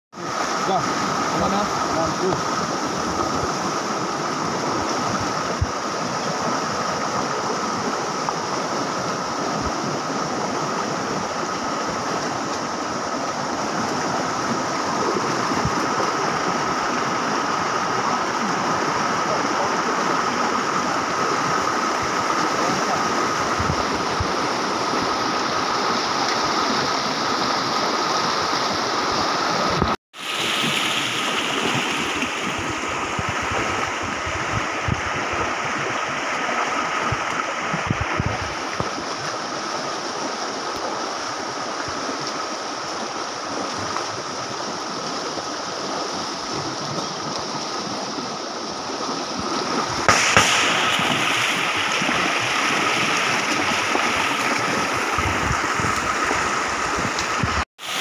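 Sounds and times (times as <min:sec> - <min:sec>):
people wading through water: 0:00.1 - 0:57.7
stream rushing over rocks: 0:00.1 - 0:58.0.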